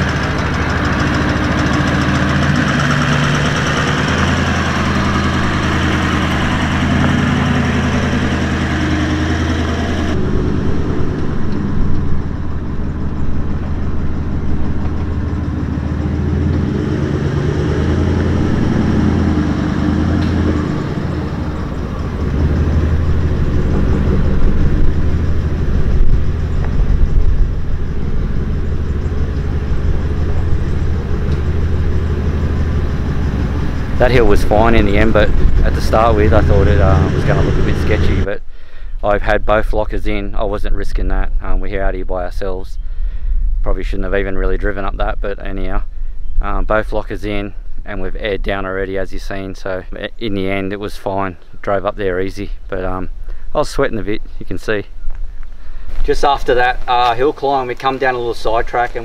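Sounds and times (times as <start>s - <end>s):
vehicle engine working under load: 0.0s - 41.2s, 42.1s - 59.0s.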